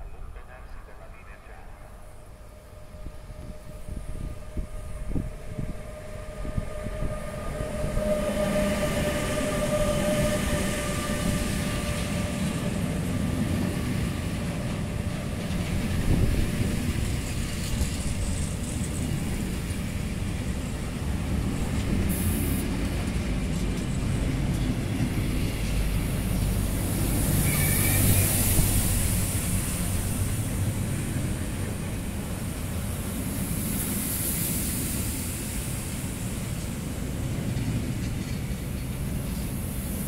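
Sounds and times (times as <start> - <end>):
freight train wheels rumbling on rails: 0.0 - 40.0.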